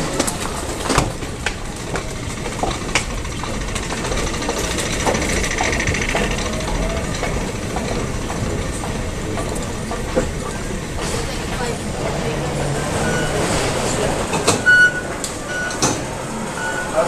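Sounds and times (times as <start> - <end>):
rumbling hum of moving walkways: 0.0 - 17.0.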